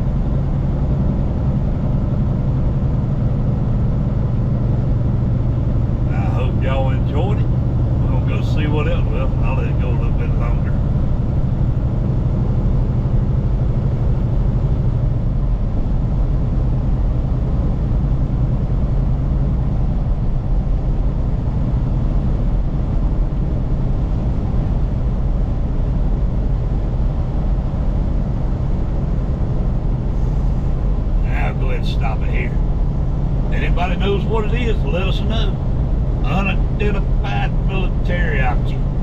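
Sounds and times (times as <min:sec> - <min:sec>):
road rumble: 0:00.0 - 0:39.0
vehicle engine drone: 0:00.0 - 0:39.0.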